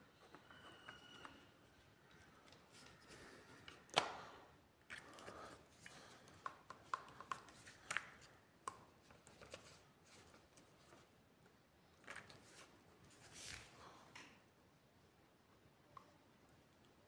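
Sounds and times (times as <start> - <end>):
soft handling noise: 0.0 - 14.4.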